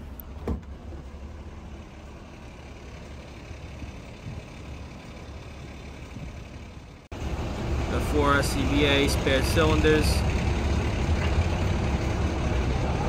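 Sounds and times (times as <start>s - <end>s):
street background noise: 0.0s - 13.0s
vehicle engine rumble: 0.0s - 13.0s.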